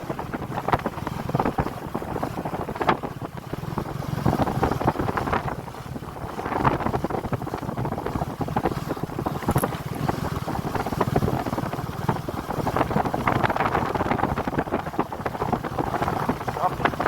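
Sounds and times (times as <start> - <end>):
motorcycle engine: 0.0 - 17.0
wind buffeting microphone: 0.0 - 17.0.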